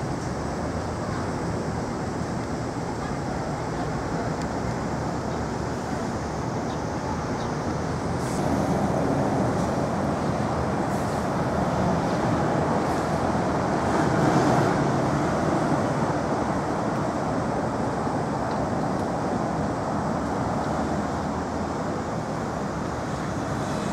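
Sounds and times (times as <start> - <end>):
traffic rumble: 0.0 - 23.9.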